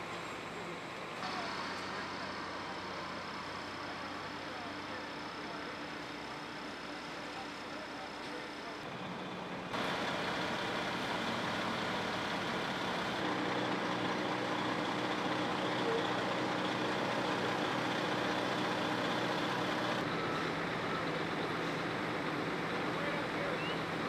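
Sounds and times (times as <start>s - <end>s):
fire truck engines humming: 0.0s - 24.0s.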